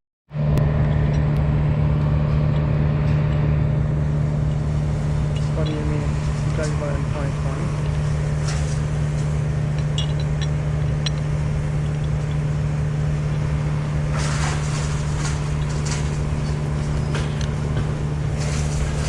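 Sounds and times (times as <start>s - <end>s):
truck engine running: 0.3s - 19.0s
noisy rush: 0.4s - 19.0s.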